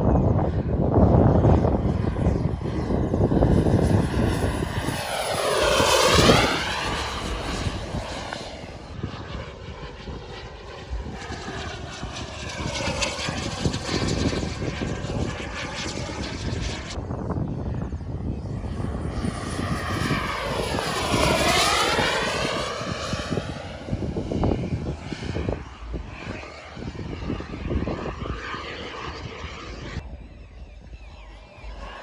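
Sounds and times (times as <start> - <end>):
model jet turbine whine: 0.0 - 32.0.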